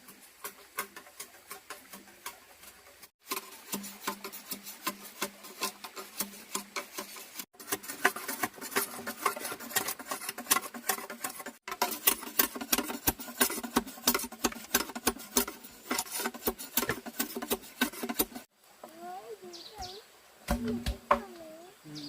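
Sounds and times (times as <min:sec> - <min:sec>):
rapid irregular clicking and tapping: 0:00.0 - 0:18.5.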